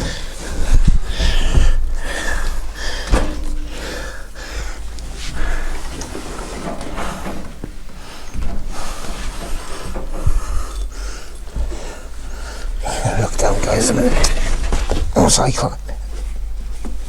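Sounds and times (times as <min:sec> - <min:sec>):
heavy breathing: 0:00.0 - 0:15.1
knocks and scraping of climbing: 0:00.0 - 0:17.0.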